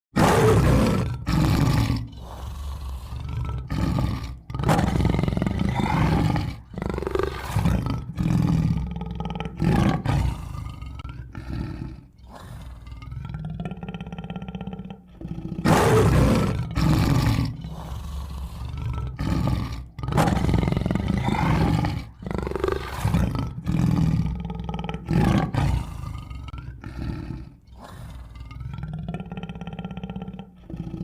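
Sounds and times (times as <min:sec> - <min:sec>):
tiger roaring and growling: 0:00.1 - 0:31.0.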